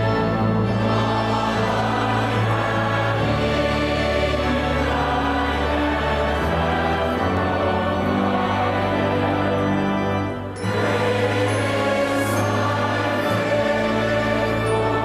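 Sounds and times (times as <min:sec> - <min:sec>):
choir singing a hymn: 0:00.0 - 0:15.0
sustained accompaniment: 0:00.0 - 0:15.0.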